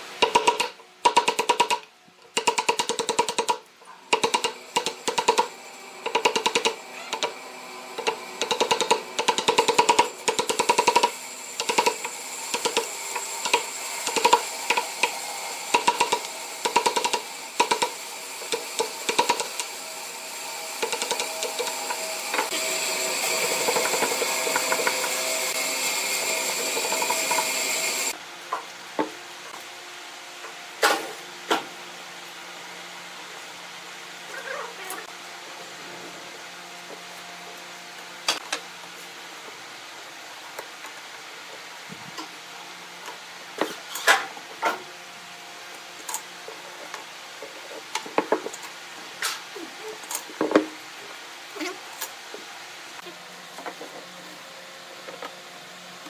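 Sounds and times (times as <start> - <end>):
steady whirring noise: 3.4 - 56.0.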